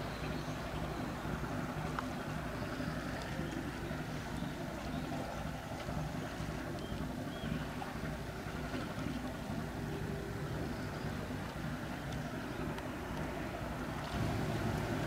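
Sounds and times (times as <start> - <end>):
ship diesel engine drone: 0.0 - 15.0.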